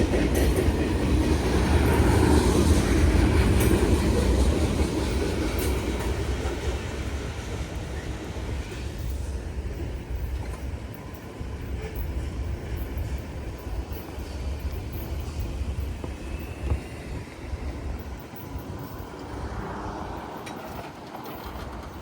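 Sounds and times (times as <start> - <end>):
faint rail clacks: 0.0 - 22.0
train wheels rumbling on rails: 0.0 - 22.0.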